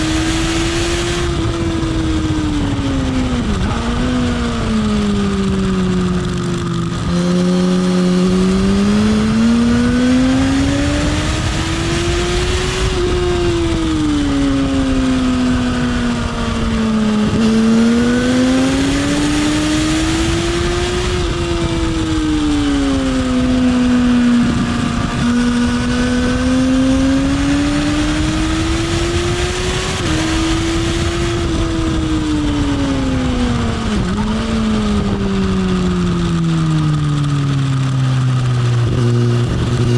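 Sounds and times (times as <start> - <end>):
motorcycle engine running hard: 0.0 - 39.9
wind rush: 0.0 - 39.9.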